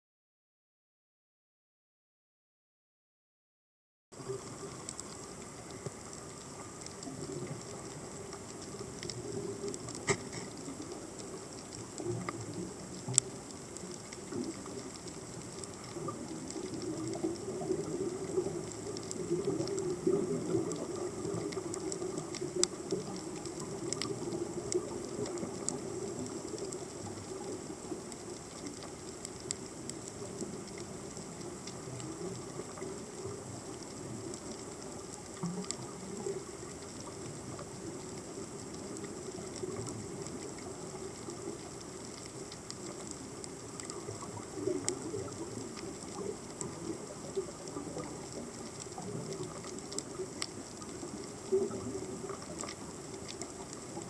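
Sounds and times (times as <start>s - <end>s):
sharp underwater clicks and crackles: 4.2s - 54.0s
underwater rumble of moving water: 4.2s - 54.0s.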